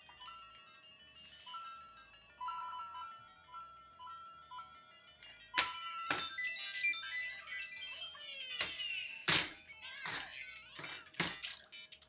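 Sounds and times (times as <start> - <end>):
electronic toy game music beeps: 0.0 - 12.0.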